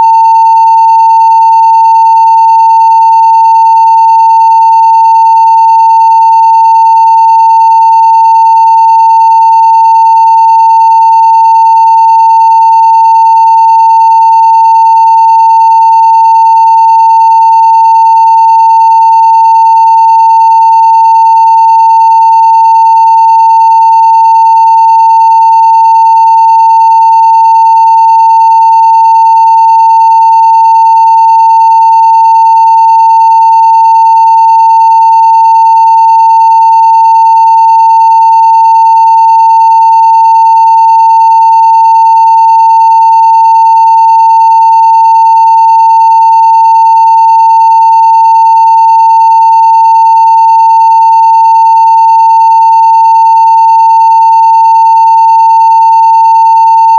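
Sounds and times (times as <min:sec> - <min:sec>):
sine-wave test tone: 0:00.0 - 0:56.9.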